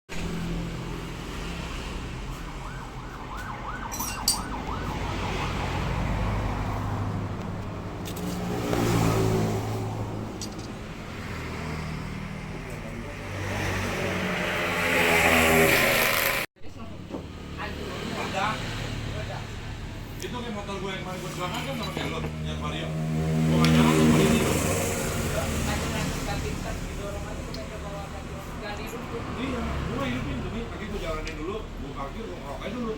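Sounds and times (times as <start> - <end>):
vehicle engines passing: 0.1 - 32.9.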